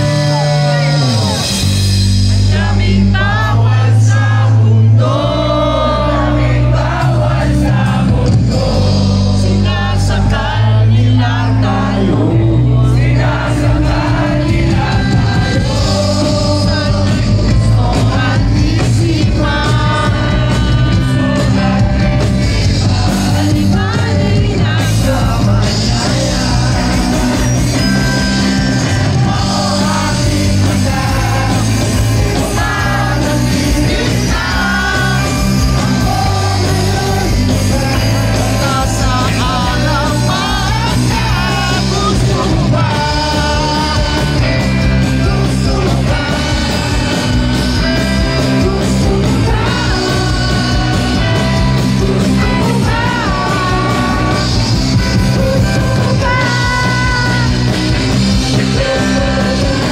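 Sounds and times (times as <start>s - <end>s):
bass guitar: 0.0s - 59.9s
drums: 0.0s - 59.9s
electric guitars: 0.0s - 59.9s
man singing: 0.0s - 59.9s.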